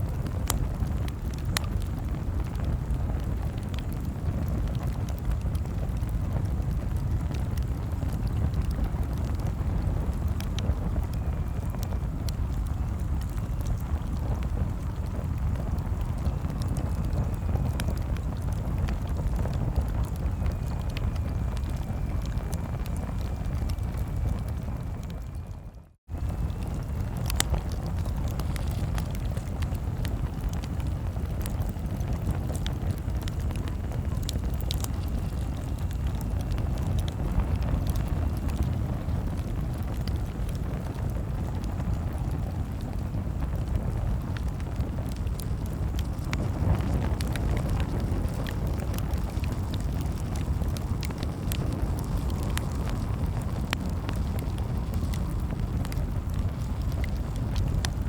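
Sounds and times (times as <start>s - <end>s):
campfire crackling and popping: 0.0s - 58.0s
low rumble: 0.0s - 58.0s.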